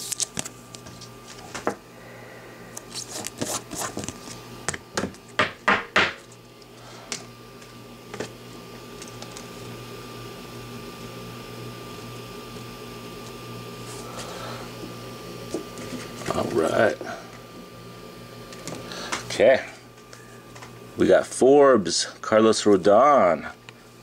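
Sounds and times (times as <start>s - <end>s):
faint hum with high tone: 0.0s - 24.0s.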